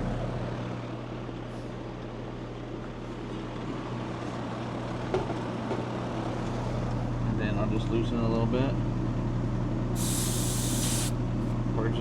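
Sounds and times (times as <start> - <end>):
air conditioning unit droning: 0.0 - 12.0.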